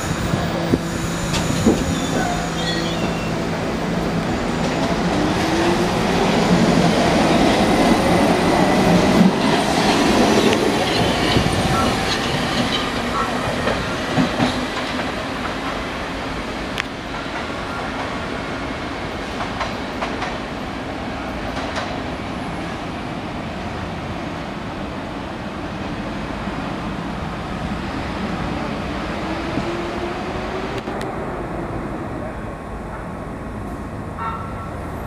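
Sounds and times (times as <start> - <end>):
rising train whine: 0.0 - 35.0
subway train rail rumble: 0.0 - 35.0.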